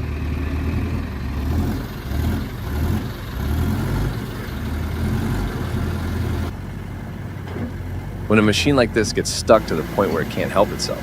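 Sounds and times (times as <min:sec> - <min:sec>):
construction machine diesel engine: 0:00.0 - 0:11.0.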